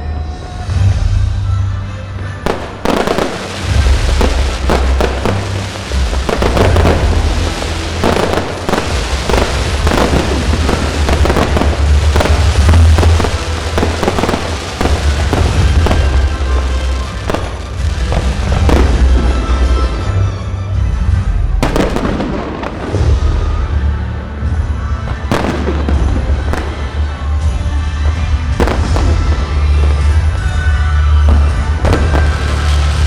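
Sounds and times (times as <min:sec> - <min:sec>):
fireworks bangs: 0:00.4 - 0:33.0
loud music with heavy bass: 0:02.4 - 0:20.4, 0:21.1 - 0:33.0.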